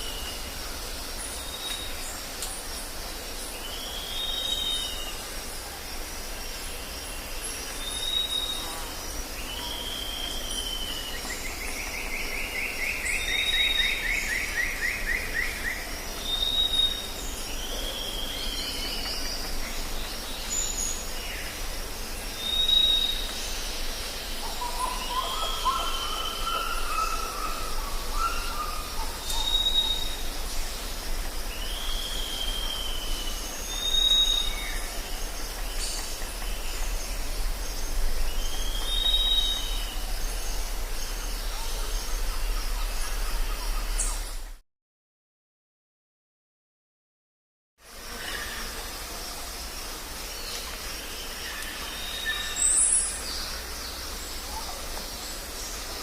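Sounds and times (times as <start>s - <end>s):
high insect drone: 0.0s - 44.6s, 47.8s - 56.0s.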